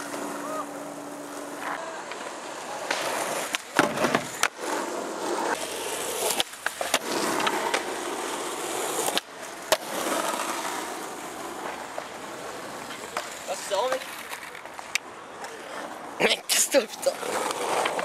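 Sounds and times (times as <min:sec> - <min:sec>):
skateboard wheels rolling on asphalt: 0:00.0 - 0:18.0.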